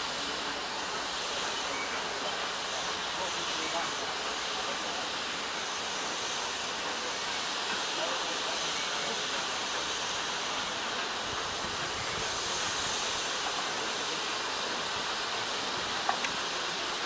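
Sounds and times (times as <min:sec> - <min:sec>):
locomotive steam hissing: 0:00.0 - 0:17.0.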